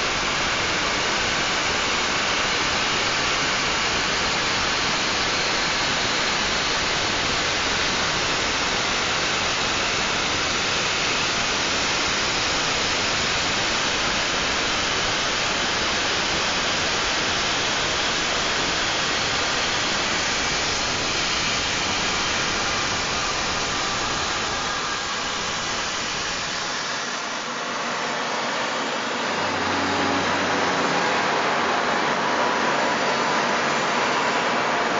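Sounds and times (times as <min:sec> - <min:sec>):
milling machine running: 0:00.0 - 0:34.9.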